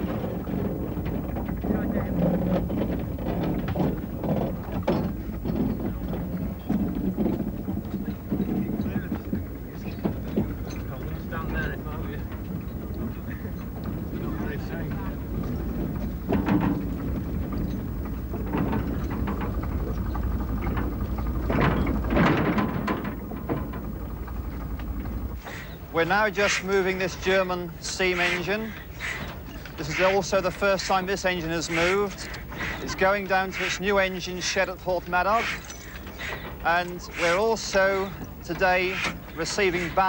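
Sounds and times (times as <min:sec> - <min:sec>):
railway carriage wheels knocking: 0:00.0 - 0:40.0.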